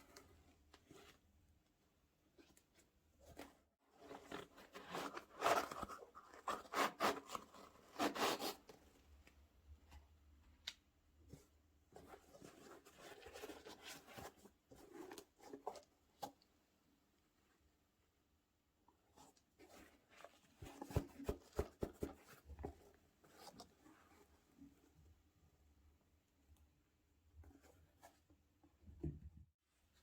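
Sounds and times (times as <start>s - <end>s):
rustling and scraping of handled things: 0.0s - 10.4s, 11.2s - 17.7s, 18.9s - 25.6s, 27.2s - 30.0s.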